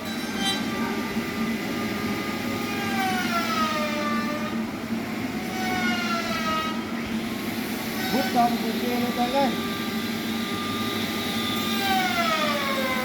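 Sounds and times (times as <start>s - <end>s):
machinery squealing whine: 0.0s - 13.0s.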